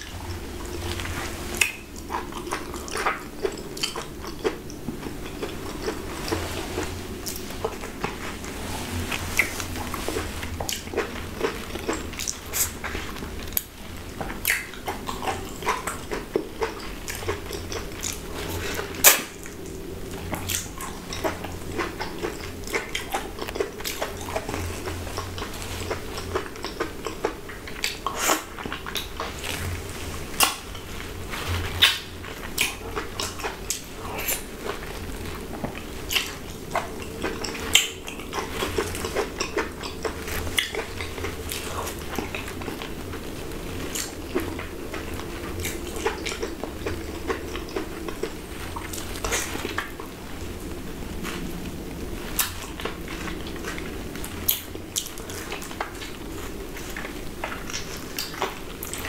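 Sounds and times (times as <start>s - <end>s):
messy eating of mango: 0.0s - 59.0s.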